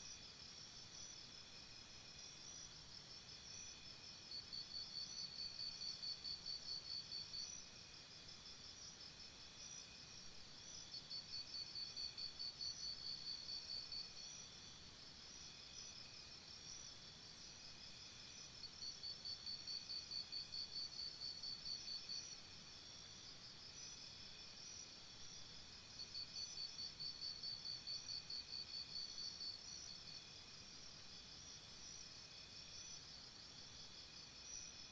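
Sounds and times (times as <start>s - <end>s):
crickets chirping in trills: 0.0s - 34.9s
high insect background: 0.0s - 34.9s.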